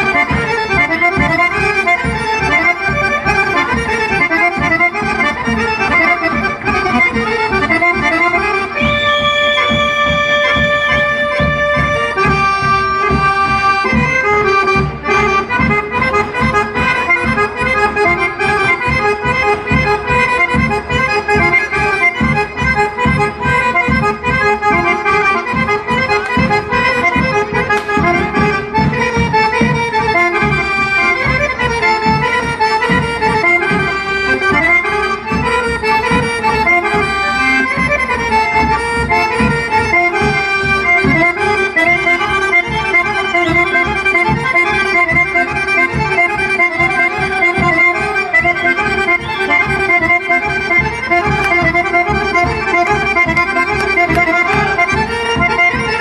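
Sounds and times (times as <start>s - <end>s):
accordion folk dance music: 0.0s - 56.0s.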